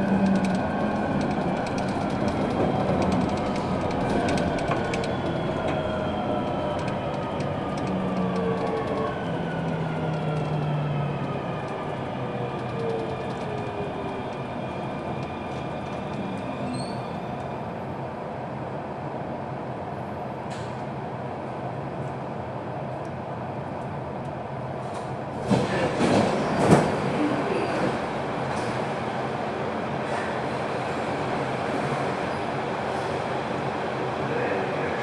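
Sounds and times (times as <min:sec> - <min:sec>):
train wheels rumbling on rail: 0:00.0 - 0:18.0, 0:23.0 - 0:35.0.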